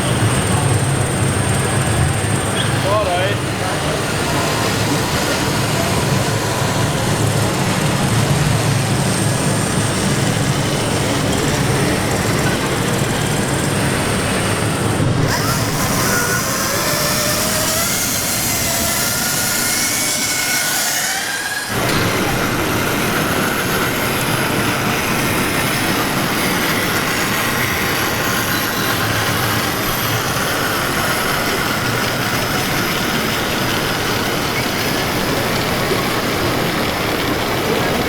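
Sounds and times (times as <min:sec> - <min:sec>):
electric motors whining: 0:00.0 - 0:38.0
steady machine hum: 0:00.0 - 0:38.0.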